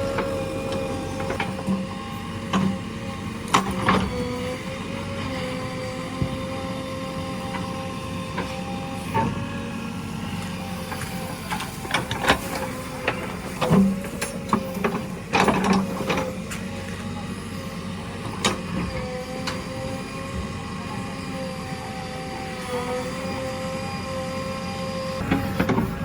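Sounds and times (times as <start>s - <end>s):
diesel engine running with whine: 0.0s - 26.0s.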